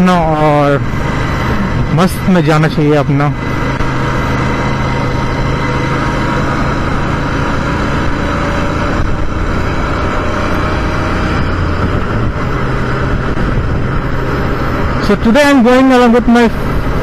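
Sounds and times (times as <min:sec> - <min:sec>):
motorcycle engine hum: 0:00.0 - 0:17.0
road noise: 0:00.0 - 0:17.0.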